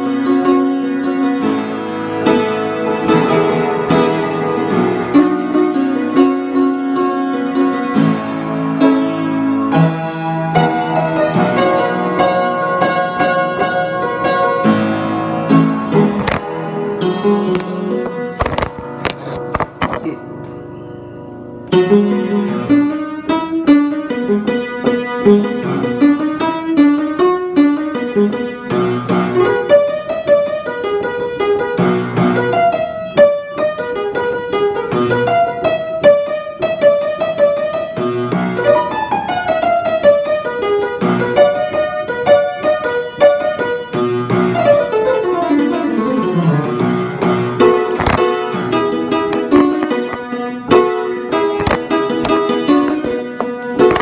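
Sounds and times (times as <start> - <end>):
piano playing: 0.0 - 54.0.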